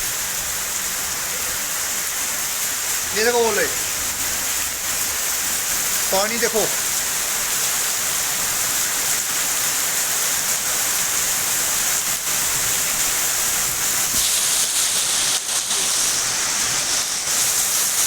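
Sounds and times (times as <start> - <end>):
hail falling: 0.0 - 18.0
heavy rain pouring: 0.0 - 18.0.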